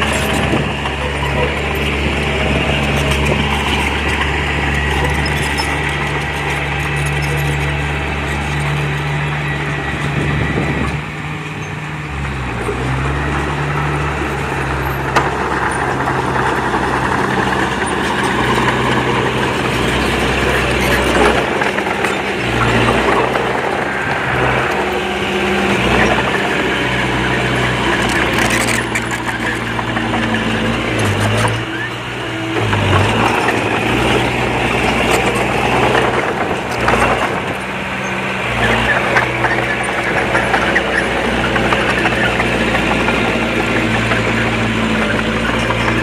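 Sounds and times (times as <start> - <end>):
bulldozer diesel engine working: 0.0 - 46.0
machinery rattling: 0.0 - 46.0.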